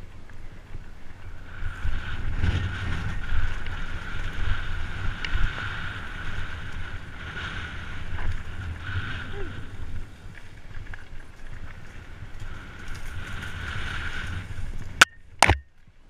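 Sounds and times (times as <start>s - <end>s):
wind buffeting microphone: 0.0s - 15.5s
bike tyres rumbling on dirt: 0.0s - 16.0s.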